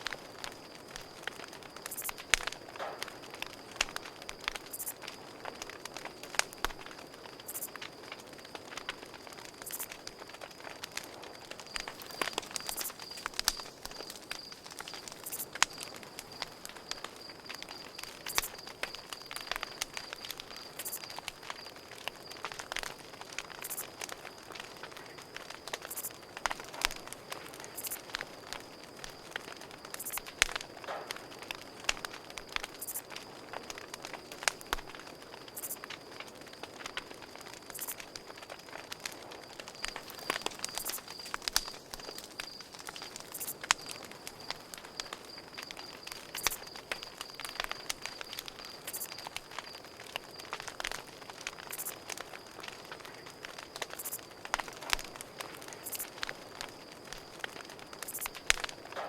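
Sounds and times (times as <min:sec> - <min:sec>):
campfire crackling and popping: 0:00.0 - 0:59.0
cricket trill: 0:00.0 - 0:59.0.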